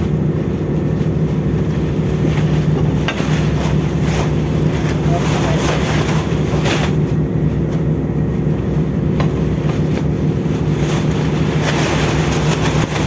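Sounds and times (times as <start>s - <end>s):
ship machinery droning: 0.0s - 13.0s.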